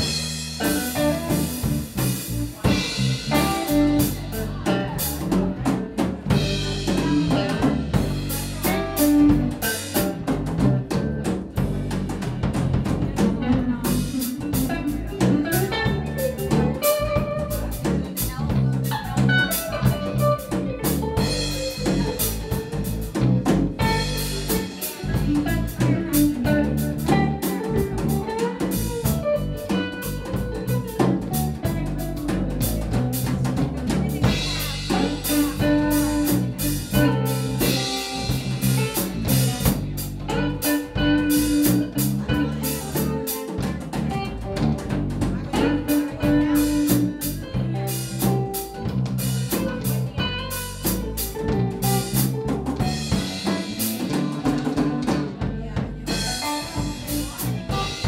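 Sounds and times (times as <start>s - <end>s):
bass and guitar: 0.0s - 58.0s
drum kit beat: 0.0s - 58.0s.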